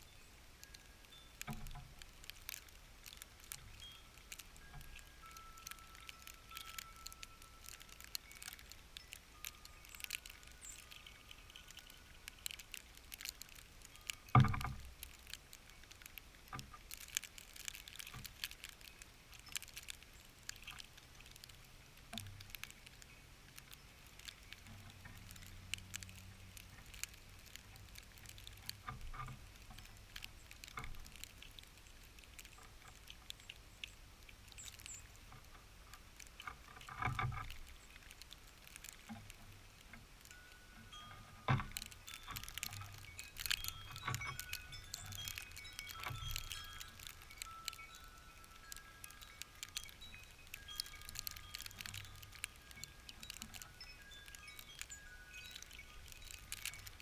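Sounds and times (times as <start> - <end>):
light ticks and taps: 0.0 - 57.0.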